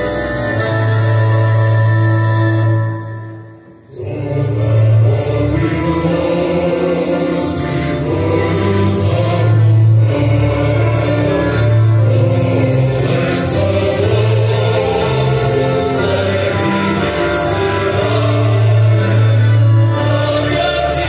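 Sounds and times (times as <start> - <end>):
men's choir singing: 3.9 - 21.0.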